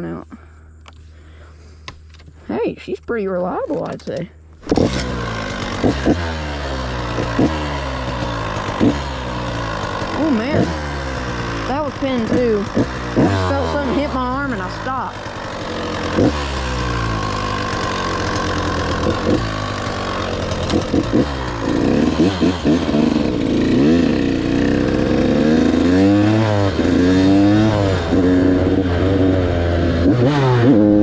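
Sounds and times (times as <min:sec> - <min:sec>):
two-stroke motorcycle engine revving: 0:04.6 - 0:31.0.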